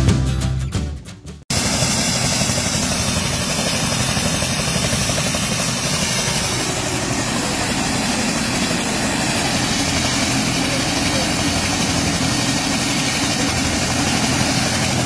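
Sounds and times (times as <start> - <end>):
helicopter idling with rotor turning: 1.5 - 15.0.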